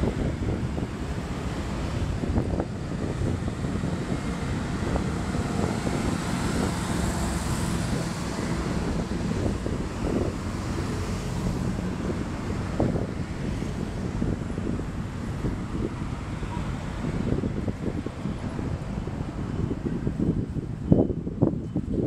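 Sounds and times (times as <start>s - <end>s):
road traffic passing: 0.0s - 22.0s
wind noise on microphone: 0.0s - 22.0s.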